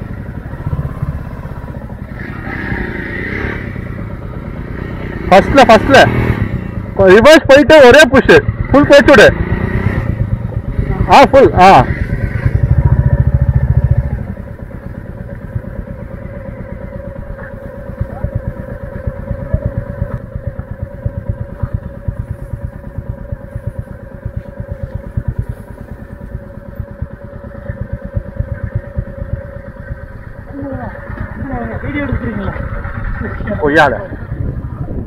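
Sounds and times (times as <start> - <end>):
motorcycle engine at low revs: 0.0 - 35.0.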